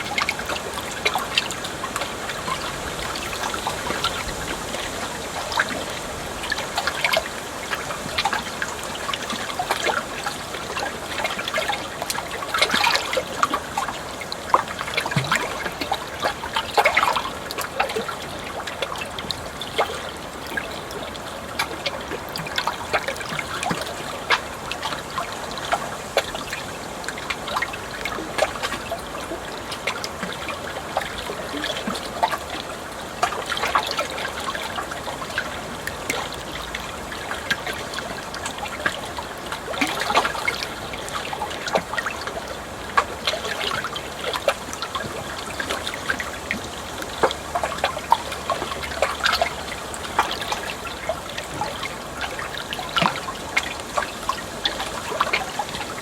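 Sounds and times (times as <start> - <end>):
shallow water babbling: 0.0 - 56.0.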